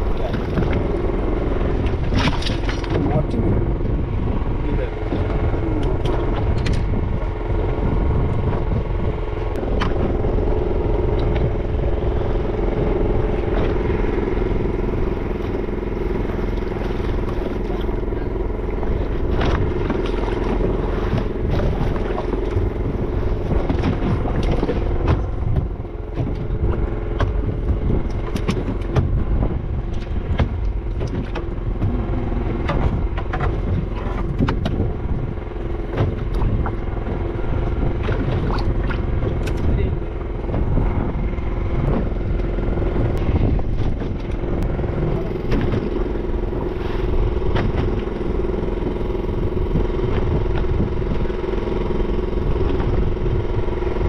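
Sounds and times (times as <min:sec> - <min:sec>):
boat motor running: 0:00.0 - 0:54.0.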